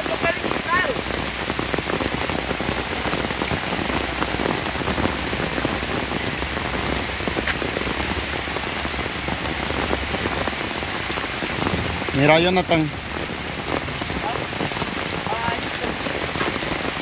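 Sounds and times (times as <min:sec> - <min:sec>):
heavy rain on trees and leaves: 0:00.0 - 0:17.0.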